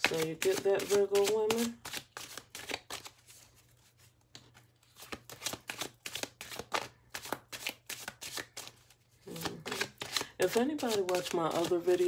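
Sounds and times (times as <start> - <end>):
cards shuffling and slapping: 0.0 - 12.0.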